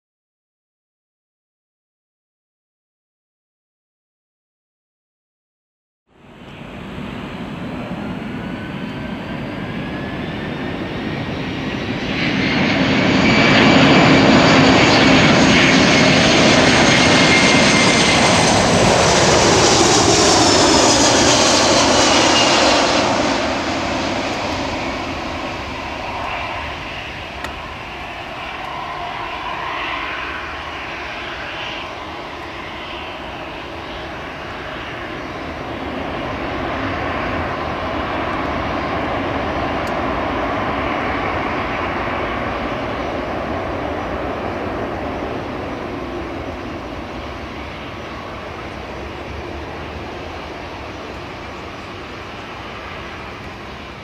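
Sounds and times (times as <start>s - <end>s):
jet airliner engines whining: 6.1s - 54.0s.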